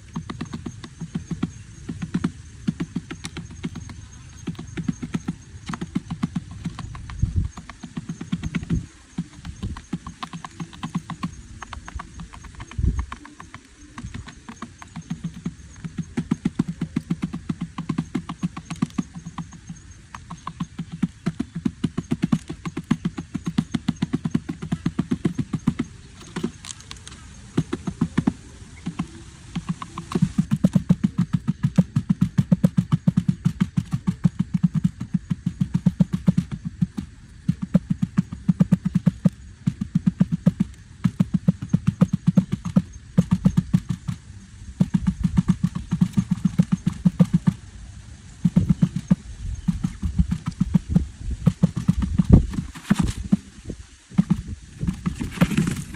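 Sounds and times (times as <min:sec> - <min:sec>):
rapid dull taps: 0:00.0 - 0:47.6, 0:48.4 - 0:55.9.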